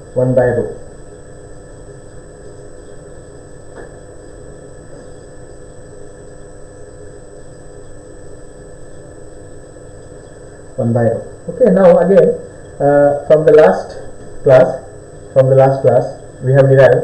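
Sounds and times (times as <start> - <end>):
faint high whine: 0.0 - 17.0
room tone hum and hiss: 0.0 - 17.0.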